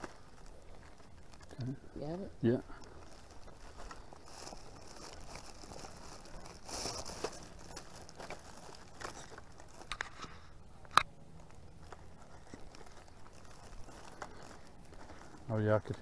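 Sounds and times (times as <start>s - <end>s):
rustling and crinkling handling: 0.0s - 16.0s.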